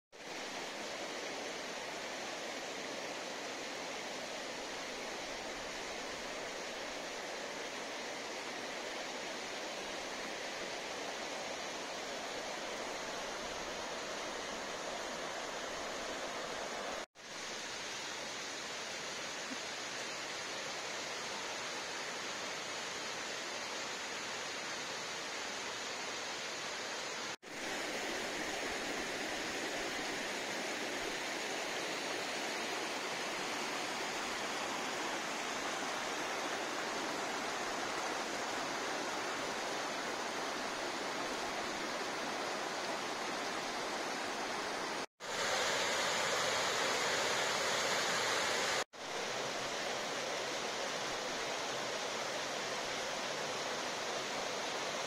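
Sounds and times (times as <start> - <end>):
stream rushing over rocks: 0.2 - 55.0.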